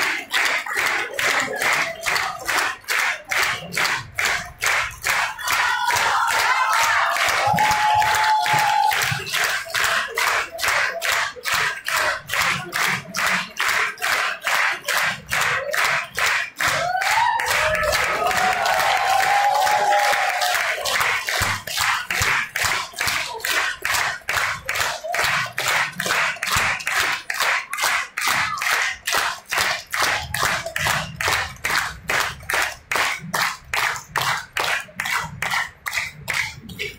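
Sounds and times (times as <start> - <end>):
audience applauding: 0.0 - 36.9
rhythmic clapping in unison: 0.0 - 36.9.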